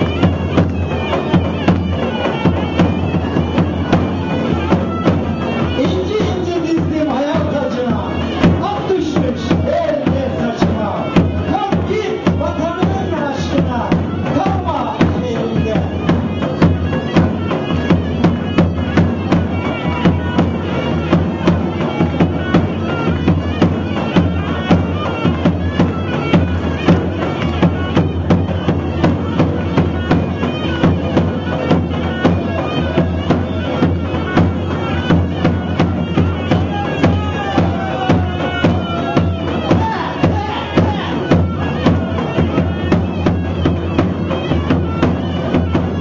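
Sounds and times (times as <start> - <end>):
reedy wind instrument melody: 0.0 - 46.0
steady drum beat: 0.0 - 46.0.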